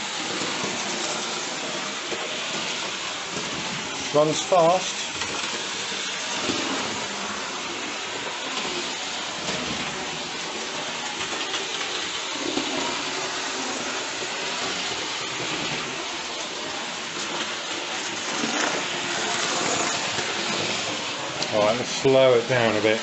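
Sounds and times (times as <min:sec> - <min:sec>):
model train whirring on rails: 0:00.0 - 0:23.0.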